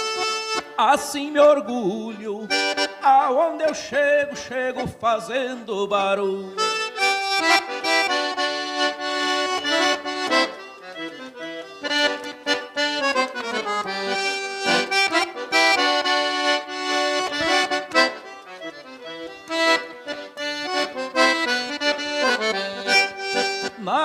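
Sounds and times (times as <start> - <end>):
accordion playing chords and melody: 0.0 - 24.0.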